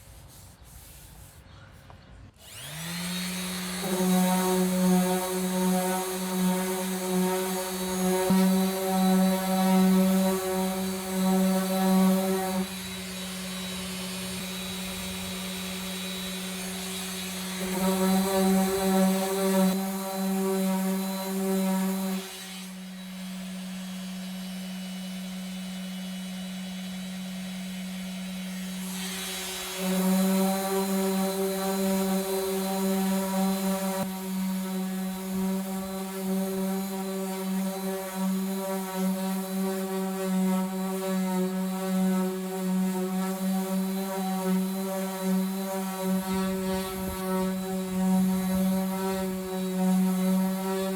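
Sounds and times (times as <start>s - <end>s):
power sander sanding: 0.0s - 1.4s, 2.3s - 50.9s.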